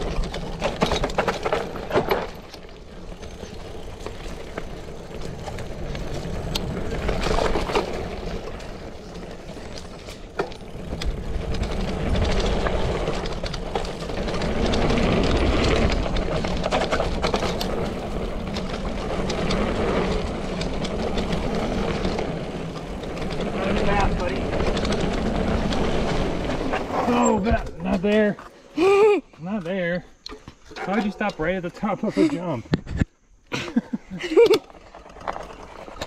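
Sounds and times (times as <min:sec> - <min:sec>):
bike tyres on dirt trail: 0:00.0 - 0:36.0.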